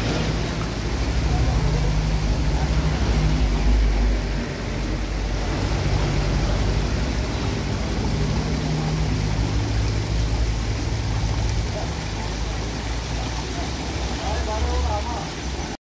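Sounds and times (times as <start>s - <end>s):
water rushing through channel: 0.0s - 15.8s.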